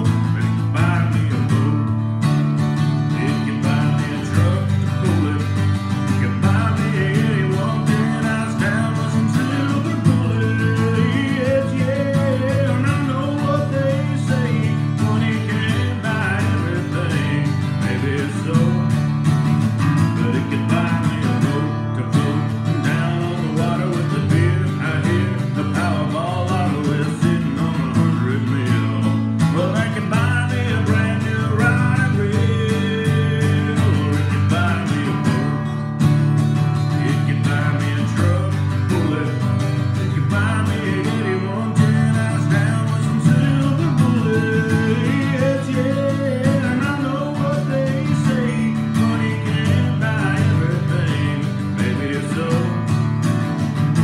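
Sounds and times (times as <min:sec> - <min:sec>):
guitar strumming: 0:00.0 - 0:54.0
man singing: 0:00.0 - 0:54.0.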